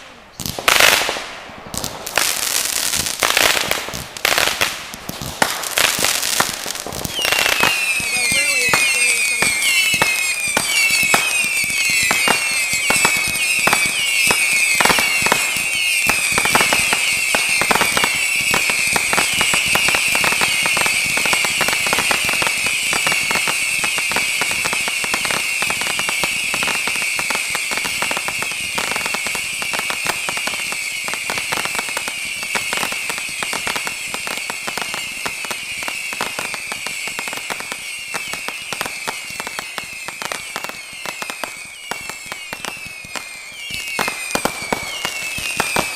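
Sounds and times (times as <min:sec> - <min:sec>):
fireworks crackling pops: 0:00.0 - 0:45.9
fireworks whistling: 0:00.0 - 0:45.9.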